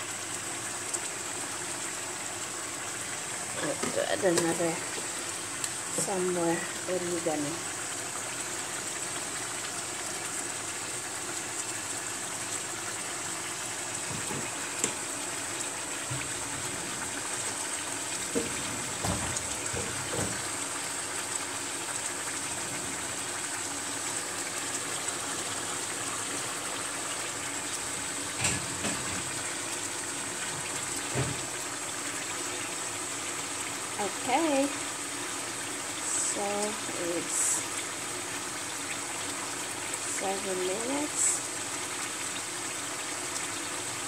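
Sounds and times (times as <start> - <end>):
fish sizzling in frying pan: 0.0 - 44.0.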